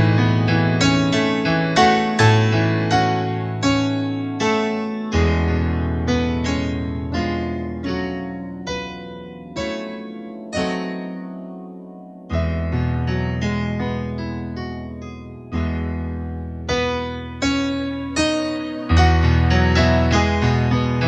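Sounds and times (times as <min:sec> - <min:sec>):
slow solo piano music: 0:00.0 - 0:21.0.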